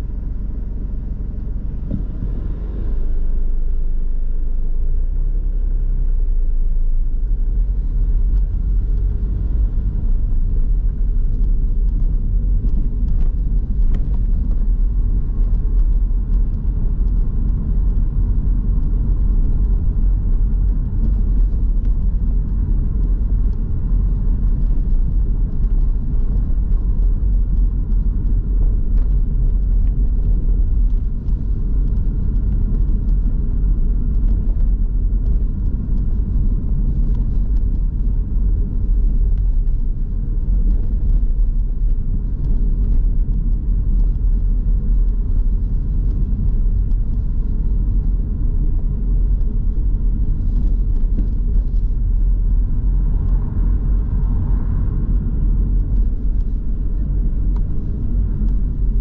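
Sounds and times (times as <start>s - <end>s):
car driving low rumble: 0.0s - 59.0s.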